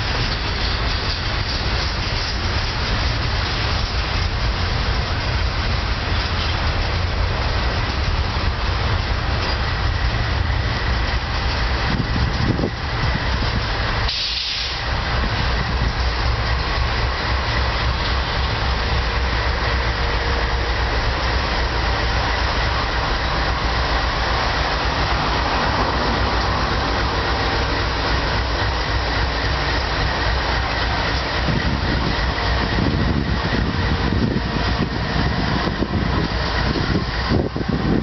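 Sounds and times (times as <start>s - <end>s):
diesel locomotive engine running: 0.0s - 38.0s
wheels rolling on rails: 0.0s - 38.0s.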